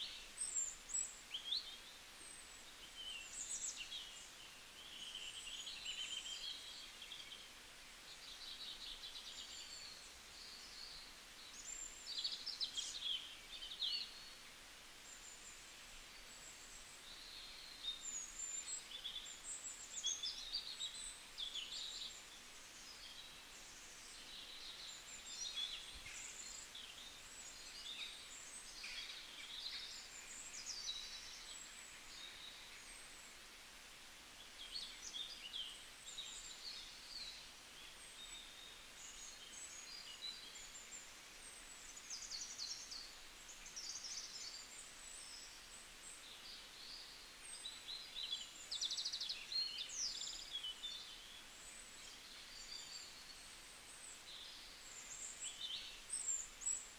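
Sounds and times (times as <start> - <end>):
faint steady hiss: 0.0 - 56.9
small birds chirping: 0.0 - 56.9.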